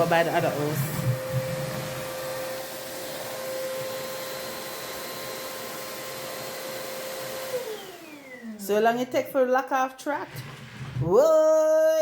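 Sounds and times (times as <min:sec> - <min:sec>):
vacuum cleaner running: 0:00.0 - 0:09.2, 0:10.0 - 0:11.4.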